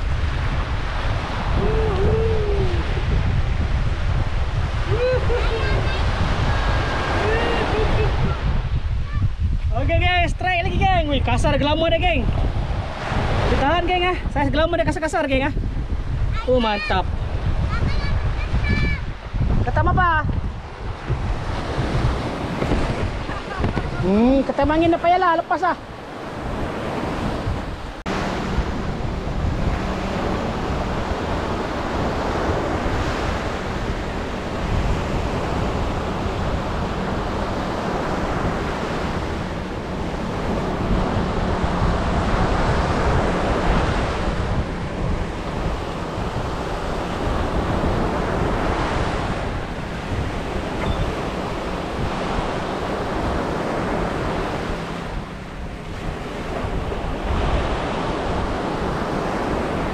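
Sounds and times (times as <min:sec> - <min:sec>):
sea waves breaking on beach: 0:00.0 - 0:59.9
wind buffeting microphone: 0:00.0 - 0:59.9.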